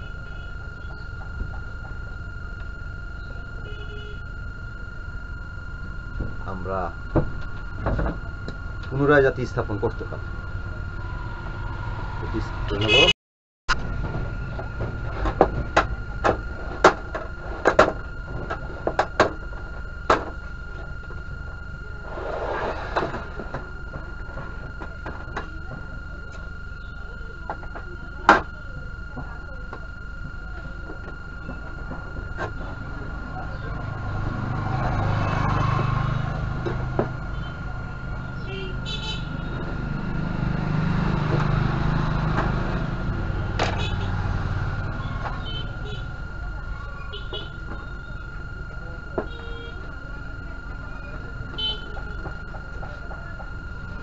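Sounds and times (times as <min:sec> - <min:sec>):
faint high whine: 0:00.0 - 0:13.1, 0:13.7 - 0:54.0
low motor drone: 0:00.0 - 0:13.1, 0:13.7 - 0:54.0.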